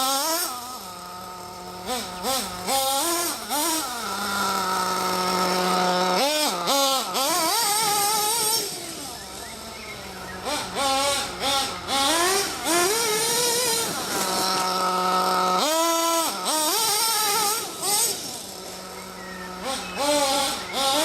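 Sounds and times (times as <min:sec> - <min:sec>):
model truck nitro engine revving: 0:00.0 - 0:21.0.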